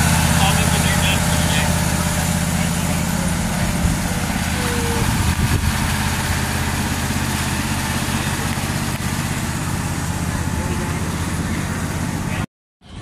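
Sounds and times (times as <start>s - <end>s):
small engine running: 0.0s - 12.5s.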